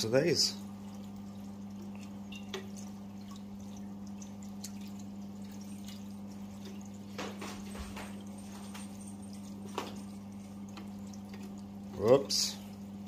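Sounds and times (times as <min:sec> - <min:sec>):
liquid pouring and dripping: 0:00.0 - 0:13.0
steady low hum: 0:00.0 - 0:13.0.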